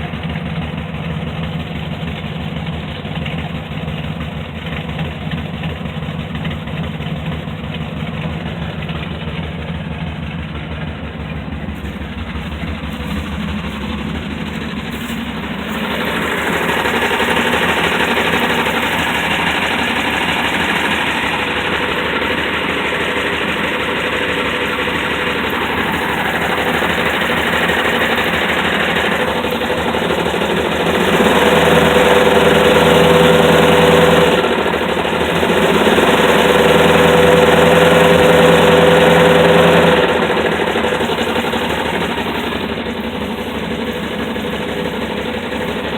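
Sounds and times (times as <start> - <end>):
car engine running with a knock: 0.0 - 45.9.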